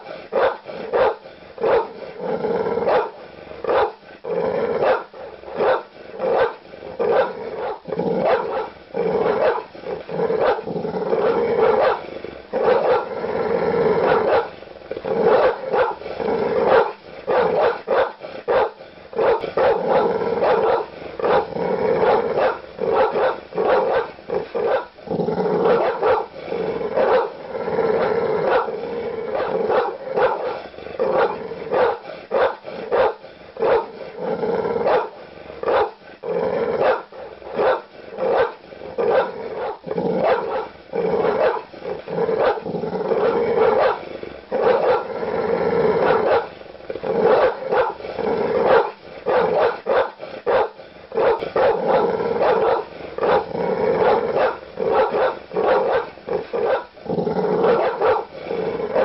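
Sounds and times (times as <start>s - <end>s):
large dogs barking aggressively: 0.0s - 59.0s.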